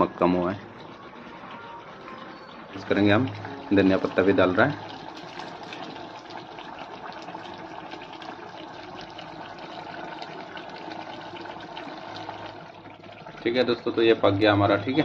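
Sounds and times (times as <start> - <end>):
curry bubbling and crackling: 0.0 - 15.0.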